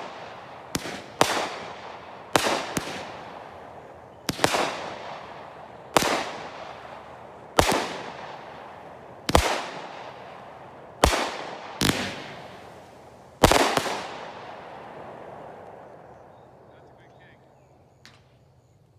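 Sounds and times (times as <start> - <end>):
firework bangs: 0.0 - 16.9.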